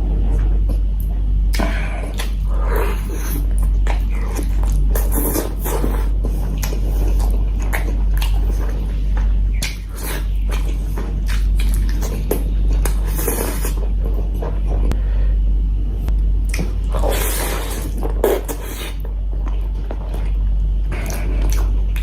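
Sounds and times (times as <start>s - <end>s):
steady low hum: 0.0s - 22.0s
mouth noises eating: 1.5s - 15.1s, 16.4s - 22.0s.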